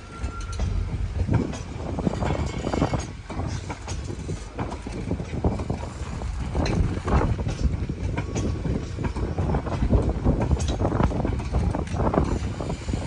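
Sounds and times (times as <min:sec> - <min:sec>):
train rumbling on rails: 0:00.0 - 0:13.0
wheels clattering over rail joints: 0:00.0 - 0:13.0.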